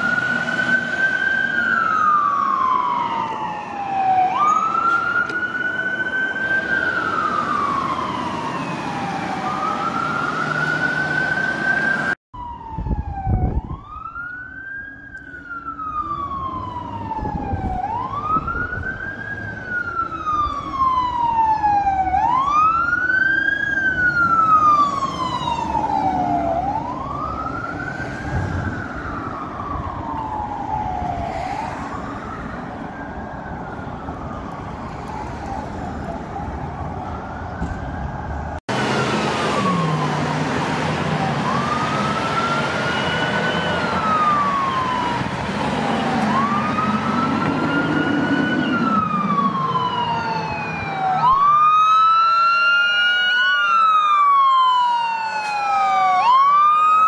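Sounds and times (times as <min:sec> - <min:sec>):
fire truck siren wailing: 0:00.0 - 0:57.0.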